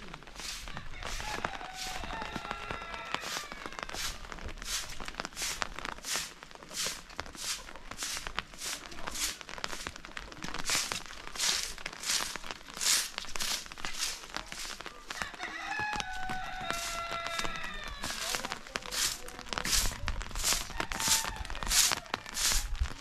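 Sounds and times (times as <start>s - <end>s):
footsteps walking: 0.0s - 23.0s.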